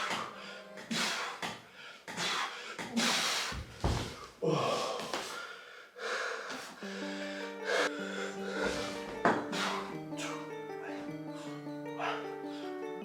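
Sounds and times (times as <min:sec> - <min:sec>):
man breathing hard: 0:00.0 - 0:12.8.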